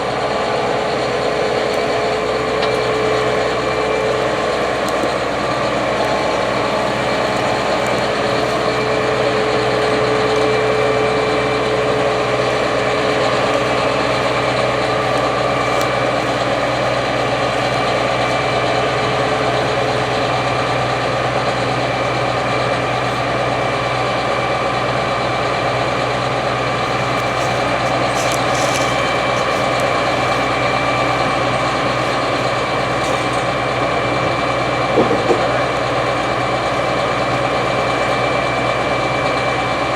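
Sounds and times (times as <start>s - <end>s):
combine harvester engine drone: 0.0s - 39.9s
steady whining tones: 0.0s - 39.9s.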